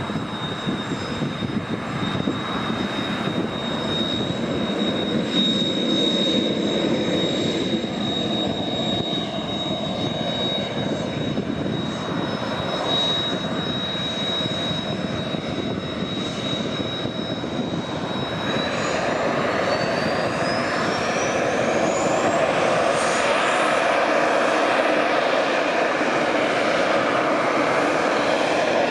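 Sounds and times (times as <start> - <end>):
high jet engine whine: 0.0 - 28.9
jet engines rushing: 0.0 - 28.9.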